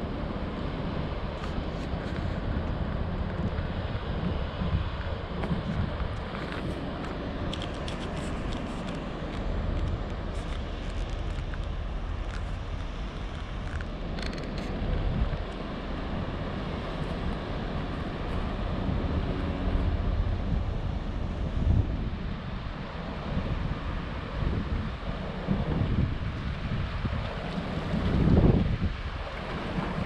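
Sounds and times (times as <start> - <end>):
open-air noise: 0.0 - 30.0
wind buffeting microphone: 0.0 - 30.0.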